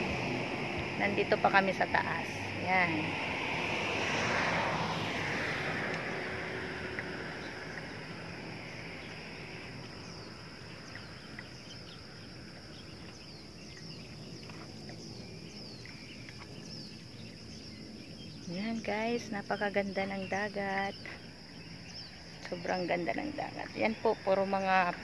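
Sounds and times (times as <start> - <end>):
insect drone: 0.0 - 25.0
wind on microphone: 0.0 - 25.0.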